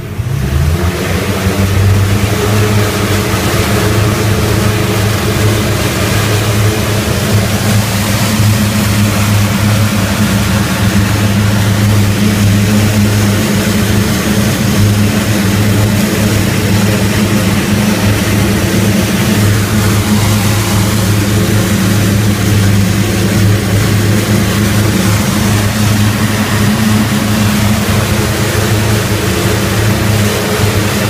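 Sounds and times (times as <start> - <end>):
radial aircraft engine drone: 0.0 - 31.0.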